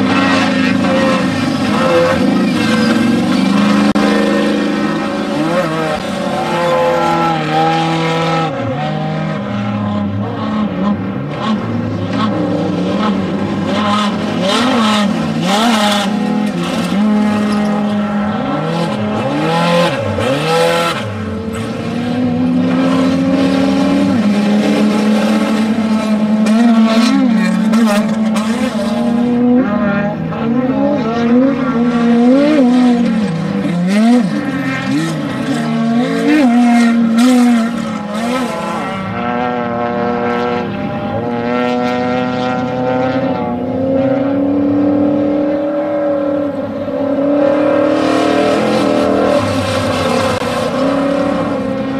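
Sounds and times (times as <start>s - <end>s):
race vehicle engines revving: 0.0s - 51.9s.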